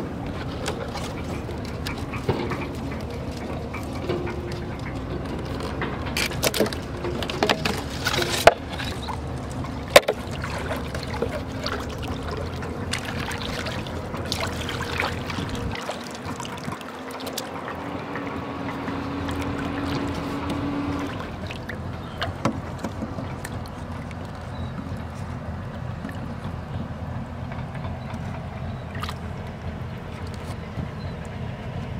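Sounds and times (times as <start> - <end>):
water sloshing and trickling: 0.0 - 31.9.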